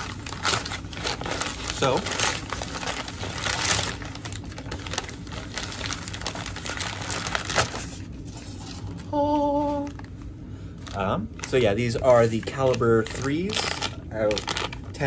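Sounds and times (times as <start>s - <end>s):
paper and plastic crinkling: 0.0s - 10.2s, 10.8s - 15.0s.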